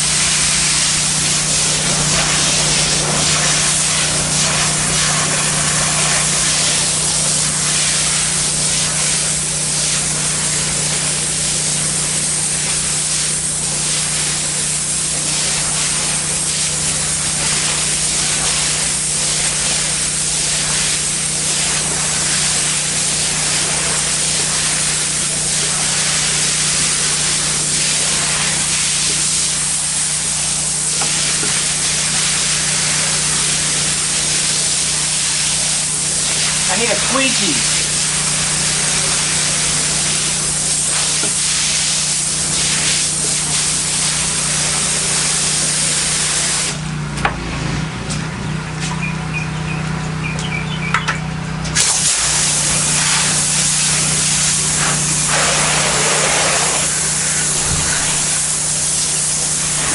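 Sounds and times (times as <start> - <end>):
pressure washer spraying tile: 0.0 - 59.9.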